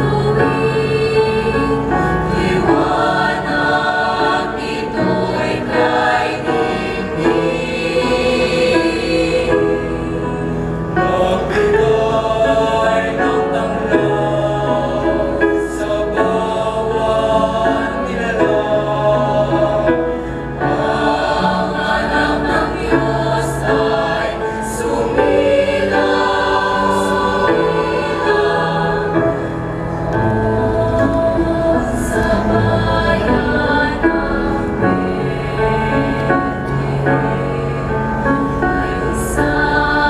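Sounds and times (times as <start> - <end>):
mixed choir singing in harmony: 0.0 - 40.0.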